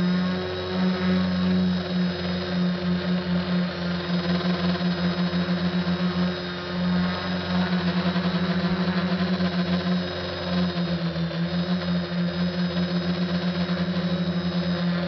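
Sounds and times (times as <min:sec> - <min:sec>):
quadcopter motors humming: 0:00.0 - 0:15.0.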